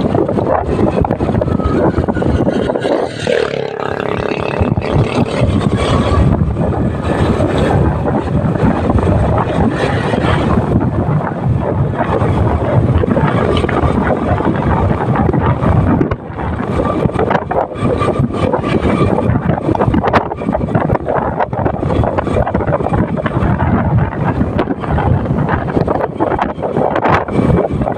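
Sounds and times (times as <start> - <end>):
motorcycle road and engine noise: 0.0 - 27.9
wind buffeting microphone: 0.0 - 27.9.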